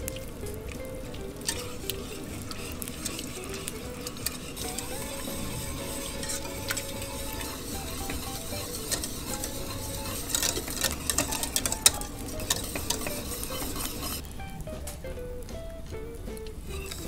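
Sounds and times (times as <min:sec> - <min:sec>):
sauce being stirred in a saucepan: 0:00.0 - 0:14.3, 0:16.6 - 0:17.0
utensil clicking against pan: 0:00.0 - 0:14.3, 0:16.3 - 0:17.0.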